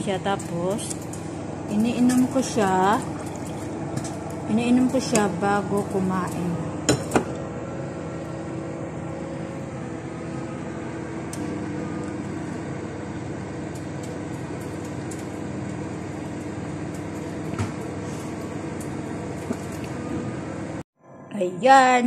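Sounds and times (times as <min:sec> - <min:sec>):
appliance whirring hum: 0:00.0 - 0:22.0.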